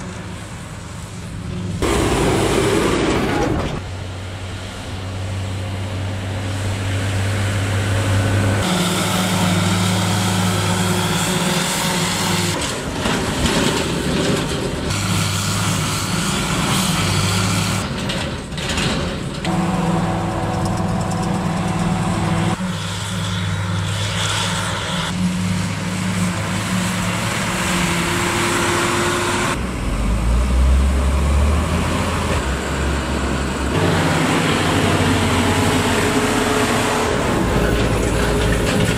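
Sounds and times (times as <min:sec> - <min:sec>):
farm machinery engines humming: 0:00.0 - 0:38.9.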